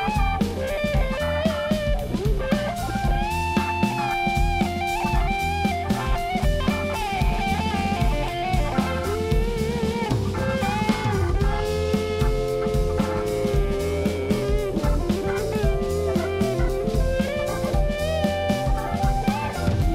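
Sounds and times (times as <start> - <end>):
drum kit beat: 0.0 - 19.9
low bass line: 0.0 - 19.9
wavering lead melody: 0.0 - 19.9.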